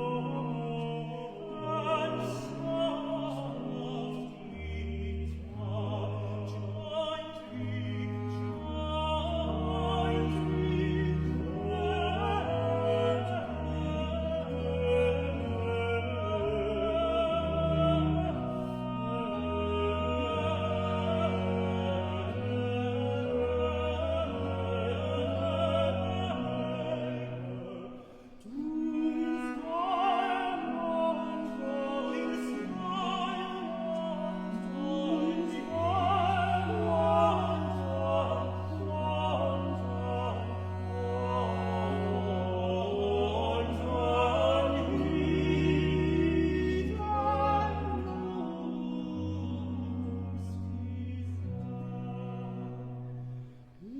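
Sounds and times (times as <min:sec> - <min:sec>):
baroque chamber instruments: 0:00.0 - 0:53.9
countertenor and tenor singing duet: 0:00.0 - 0:53.9.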